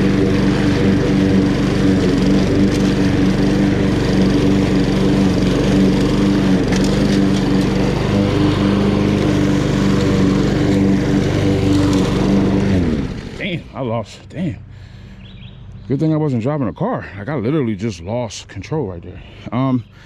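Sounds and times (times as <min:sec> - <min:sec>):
lawn mower engine running: 0:00.0 - 0:16.5.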